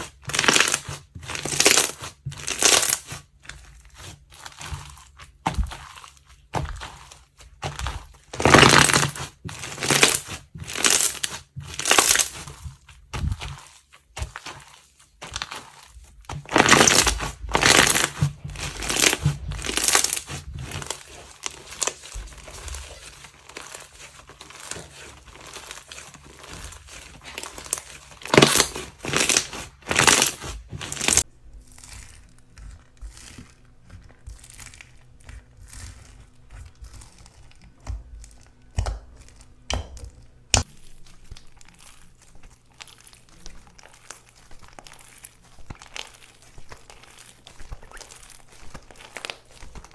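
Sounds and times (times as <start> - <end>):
crunchy slime being squished: 0.0 - 49.9.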